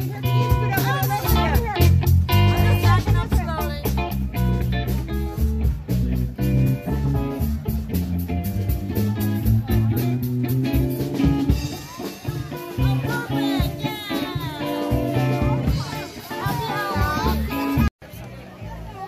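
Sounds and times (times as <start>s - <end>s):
guitar music with drum beat: 0.0s - 18.2s.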